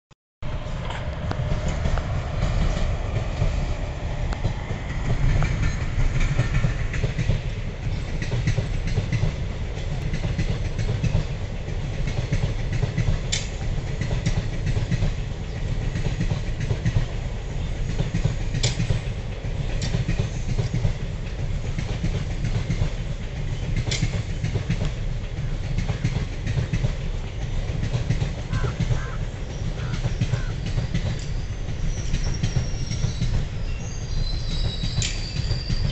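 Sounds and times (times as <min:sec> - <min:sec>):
train rumbling past: 0:00.4 - 0:35.9
wheels clicking over rail joints: 0:04.2 - 0:35.9.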